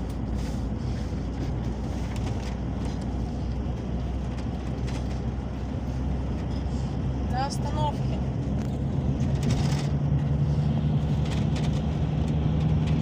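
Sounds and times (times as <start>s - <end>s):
engine and road rumble: 0.0s - 13.0s
light rattles and clicks: 0.0s - 13.0s.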